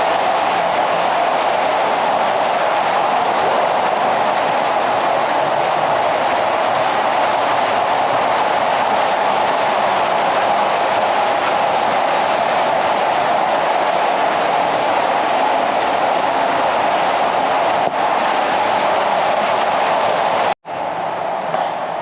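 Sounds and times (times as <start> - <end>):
water rushing in a cave: 0.0 - 20.6.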